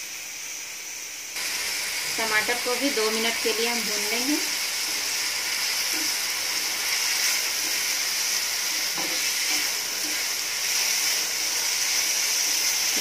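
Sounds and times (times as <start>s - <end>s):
onion and tomato sizzling in oil: 0.0s - 13.0s.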